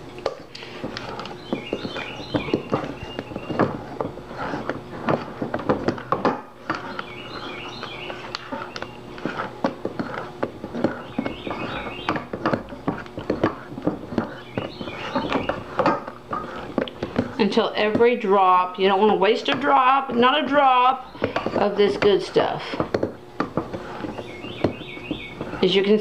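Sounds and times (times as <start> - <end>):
spatula scraping metal bowl: 0.6 - 26.0.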